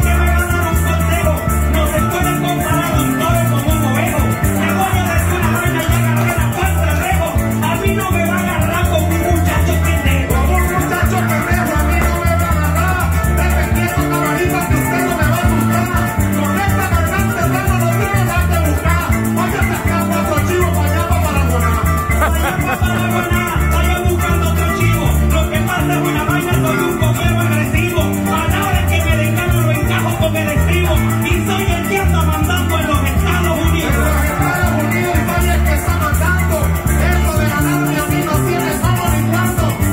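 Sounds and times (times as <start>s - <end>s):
electric bass: 0.0s - 39.9s
man singing into a microphone: 0.0s - 39.9s
maracas: 0.0s - 39.9s.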